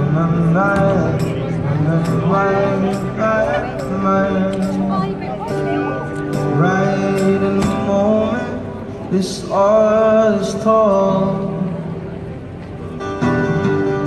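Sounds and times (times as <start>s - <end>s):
man singing: 0.0s - 12.1s
acoustic guitar strumming: 0.0s - 14.0s.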